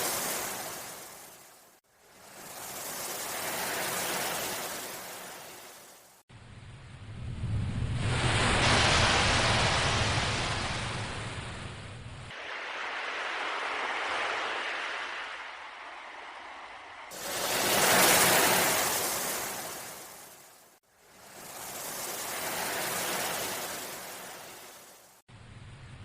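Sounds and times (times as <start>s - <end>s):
ocean waves washing in: 0.0s - 25.9s.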